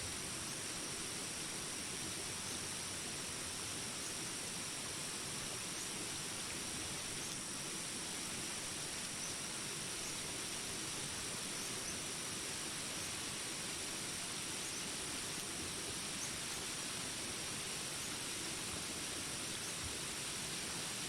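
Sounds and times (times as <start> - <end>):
insects droning: 0.1 - 21.0.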